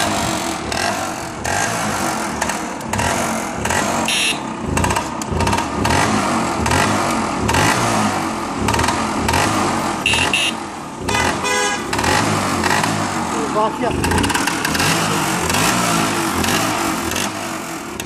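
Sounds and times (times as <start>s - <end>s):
two-stroke scooter engine revving: 0.0s - 18.0s.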